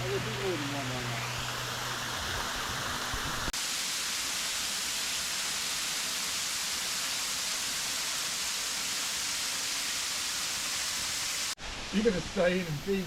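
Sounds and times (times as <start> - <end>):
water cascading over rocks: 0.0 - 13.0.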